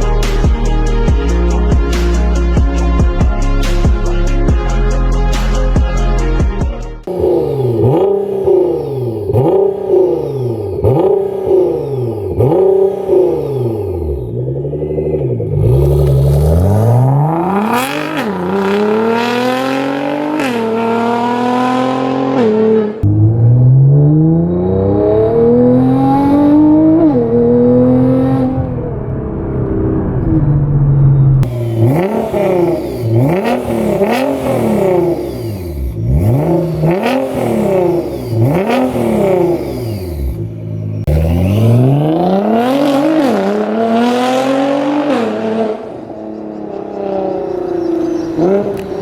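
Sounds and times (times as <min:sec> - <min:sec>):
car engine accelerating hard: 0:07.0 - 0:49.0
engine throttle blips: 0:07.1 - 0:49.0.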